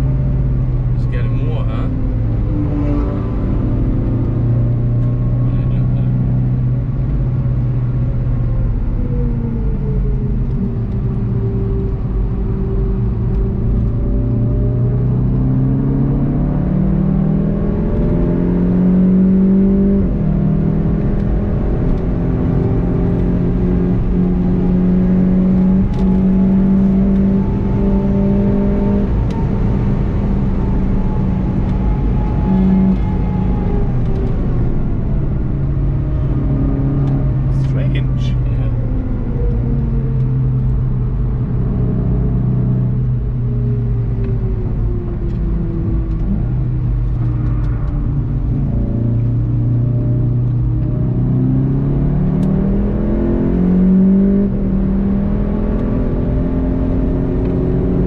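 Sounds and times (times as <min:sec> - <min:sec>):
car engine pulling hard: 0:00.0 - 0:58.0
road and tyre noise: 0:00.0 - 0:58.0.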